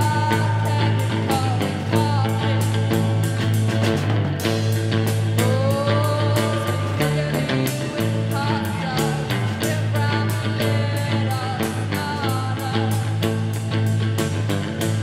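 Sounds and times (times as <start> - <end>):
held bass notes: 0.0 - 15.0
sliding bent guitar notes: 0.0 - 15.0
steady drum beat: 0.0 - 15.0.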